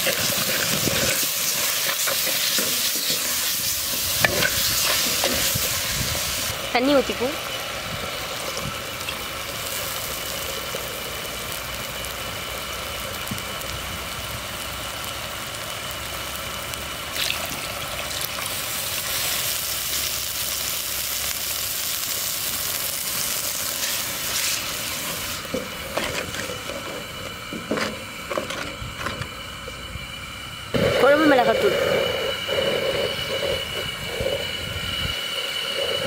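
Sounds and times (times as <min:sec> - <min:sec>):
sauce sizzling and simmering in pot: 0:00.0 - 0:36.0.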